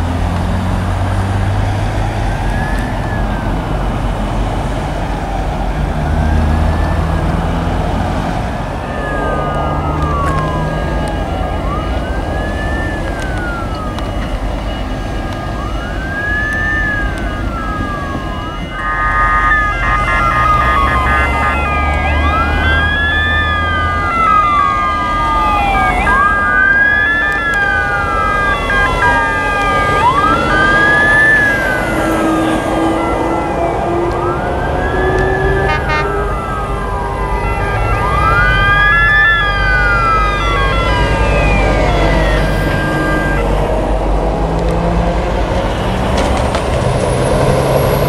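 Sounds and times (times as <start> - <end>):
heavy vehicle engines: 0.0 - 48.0
wailing siren: 0.0 - 48.0
two-tone siren: 0.4 - 48.0.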